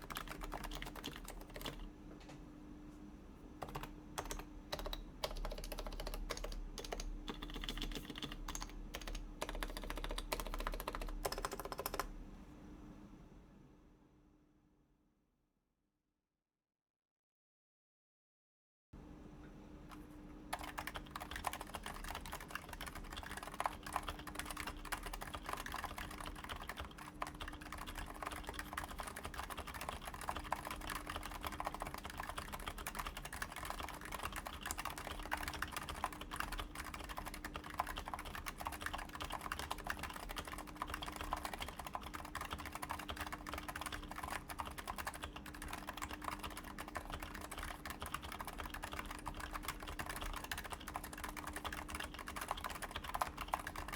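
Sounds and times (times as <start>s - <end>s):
keyboard typing: 0.0s - 1.9s, 3.6s - 12.1s, 19.9s - 53.9s.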